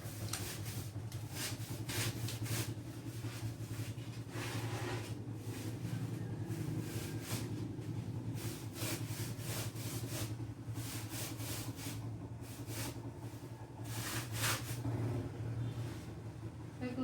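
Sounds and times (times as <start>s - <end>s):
short rubbing strokes: 0.0s - 13.0s, 13.8s - 14.8s
steady low hum: 0.0s - 17.0s.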